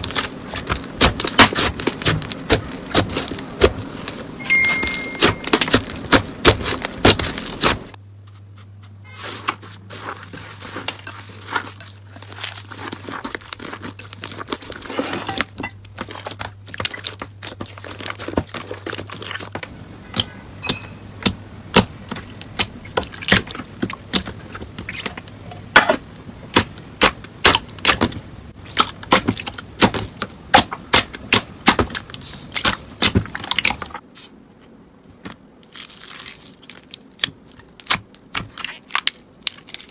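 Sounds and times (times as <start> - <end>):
slime clicking and crackling: 0.0 - 8.0, 10.0 - 14.8, 15.8 - 19.6, 20.2 - 25.2, 26.5 - 34.0, 35.7 - 39.9.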